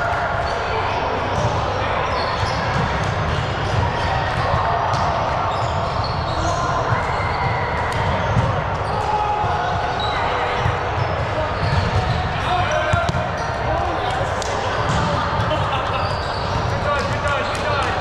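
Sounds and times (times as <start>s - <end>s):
gym crowd din: 0.0s - 18.0s
sneaker squeaks on floor: 1.4s - 9.1s, 9.8s - 13.8s, 14.9s - 17.9s.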